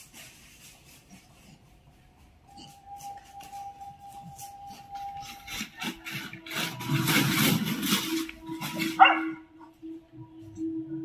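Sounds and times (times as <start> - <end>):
leaves rustling and scraping: 0.0 - 1.7, 2.6 - 9.7.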